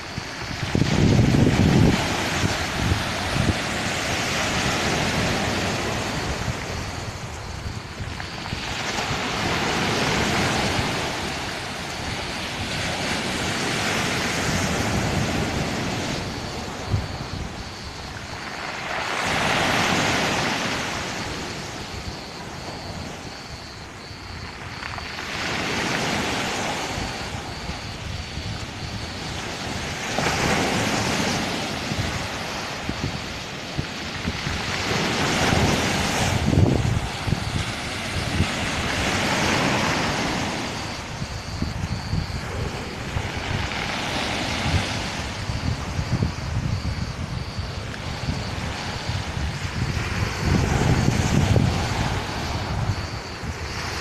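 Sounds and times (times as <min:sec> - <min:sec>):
waves washing up pebble beach: 0:00.0 - 0:54.0.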